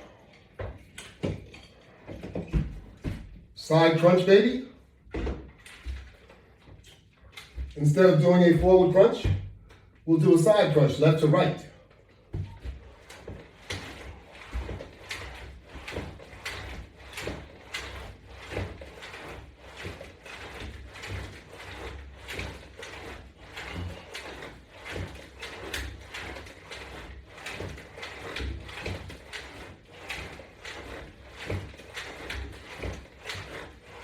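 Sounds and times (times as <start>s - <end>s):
exercise bands clicking and creaking: 0.0s - 34.0s.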